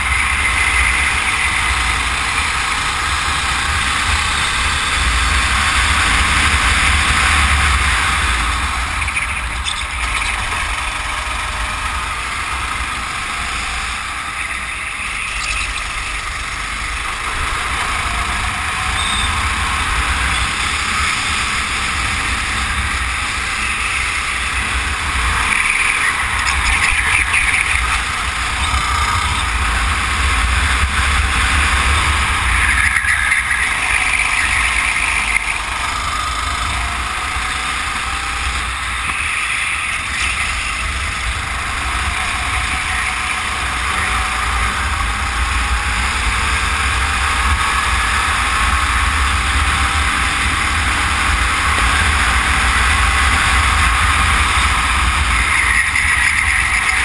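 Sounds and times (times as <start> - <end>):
racing kart engine revving: 0.0 - 57.0.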